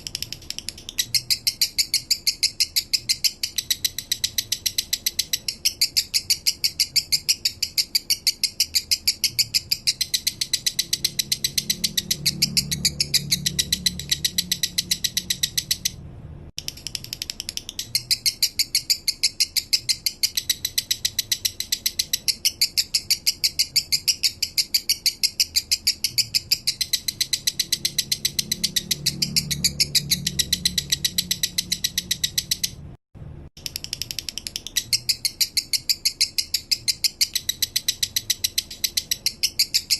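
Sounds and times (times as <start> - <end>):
lovebird chirping: 0.0 - 16.0, 16.6 - 33.0, 33.6 - 39.9.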